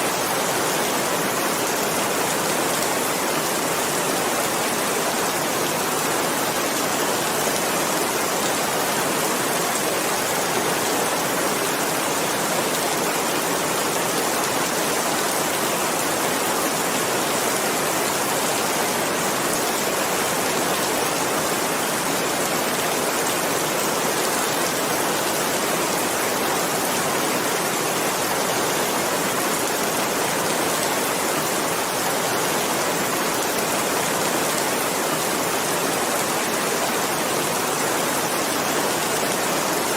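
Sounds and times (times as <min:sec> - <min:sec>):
dense rain falling: 0:00.0 - 0:39.9.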